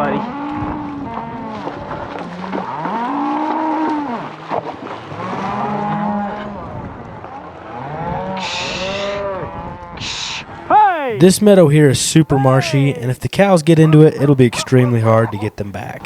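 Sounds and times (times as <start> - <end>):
cattle mooing: 0.0 - 4.4, 5.1 - 6.6, 7.6 - 11.3, 12.1 - 15.6.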